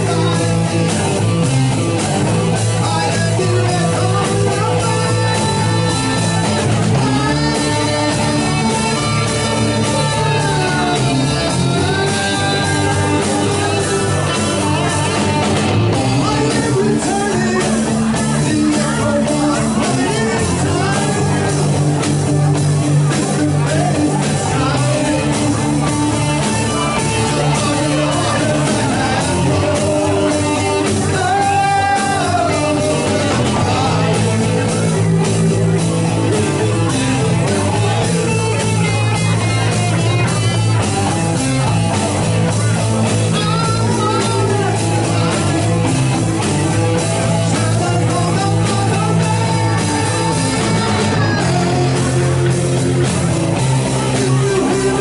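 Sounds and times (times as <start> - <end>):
bass guitar: 0.0 - 55.0
drums: 0.0 - 55.0
electric guitar: 0.0 - 55.0
keyboards: 0.0 - 55.0
person singing: 0.0 - 55.0.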